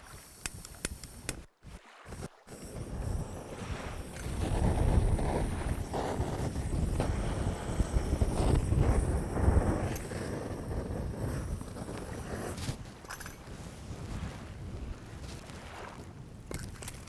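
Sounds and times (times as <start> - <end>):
wind buffeting microphone: 2.5 - 16.8.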